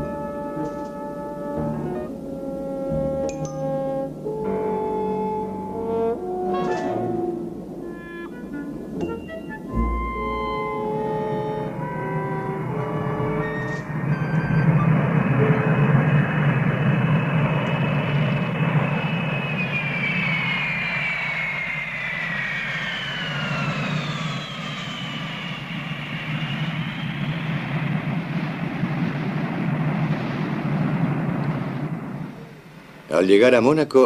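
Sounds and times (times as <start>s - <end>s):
jet engine roar: 0.0s - 34.0s
turbine whine falling in pitch: 0.0s - 34.0s
low rumble: 5.7s - 33.2s.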